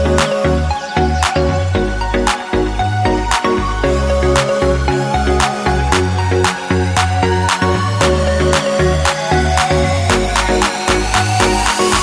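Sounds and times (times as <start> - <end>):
electronic beat with heavy bass: 0.0 - 12.0.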